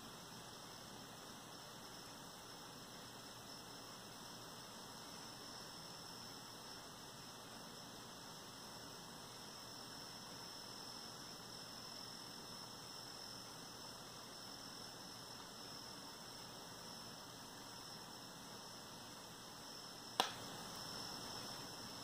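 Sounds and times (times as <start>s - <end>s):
faint steady hiss: 0.0s - 22.0s
high-pitched whine: 0.0s - 22.0s.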